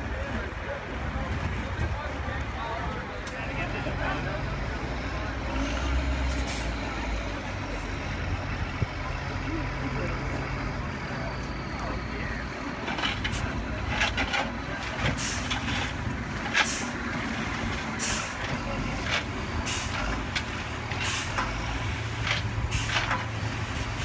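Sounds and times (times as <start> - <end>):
dump truck engine running: 0.0 - 24.0.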